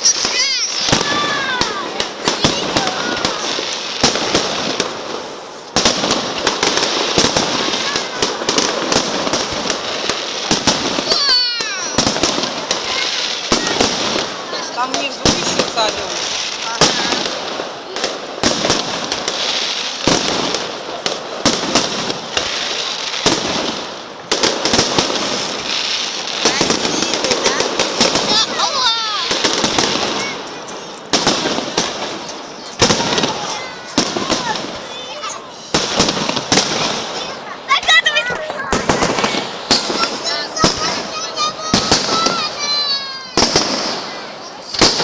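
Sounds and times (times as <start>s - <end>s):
fireworks crackling and popping: 0.0s - 45.0s.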